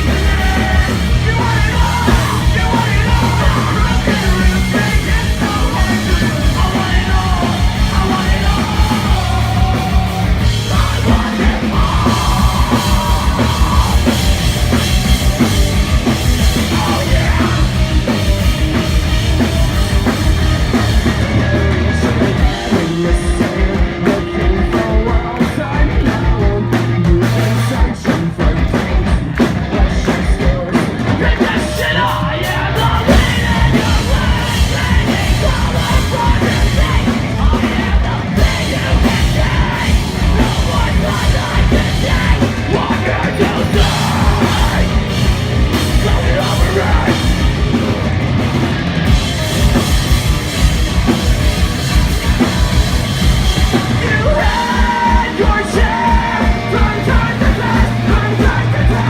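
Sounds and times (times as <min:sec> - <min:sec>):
fast drumming: 0:00.0 - 0:59.0
guitars: 0:00.0 - 0:59.0
live punk rock band: 0:00.0 - 0:59.0.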